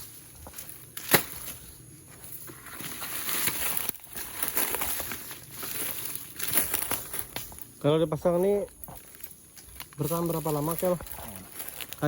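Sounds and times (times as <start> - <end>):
crackling and rustling of undergrowth: 0.0 - 12.0.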